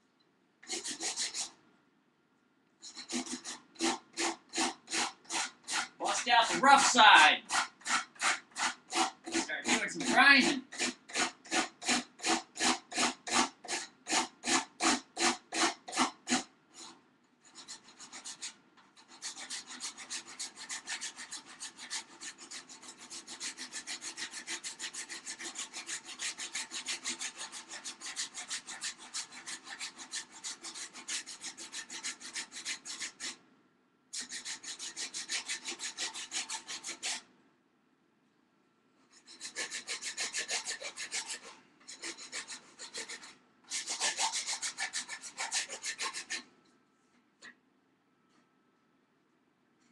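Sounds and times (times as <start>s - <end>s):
hand file rasping on wood: 0.6s - 1.6s, 2.8s - 33.4s, 34.2s - 37.2s, 39.1s - 46.5s.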